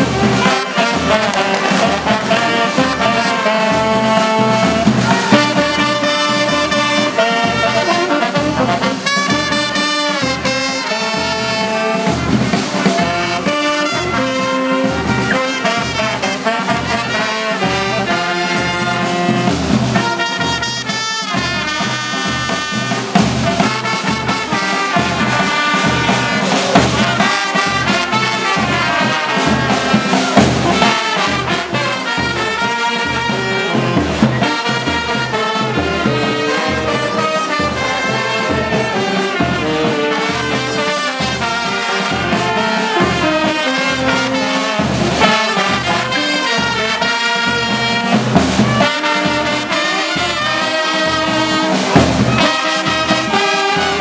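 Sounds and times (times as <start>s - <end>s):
brass band music: 0.0s - 54.0s.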